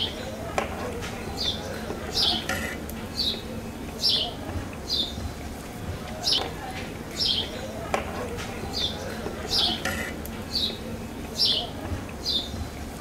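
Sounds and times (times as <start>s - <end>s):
small bird chirping: 0.0s - 5.6s, 6.2s - 12.7s.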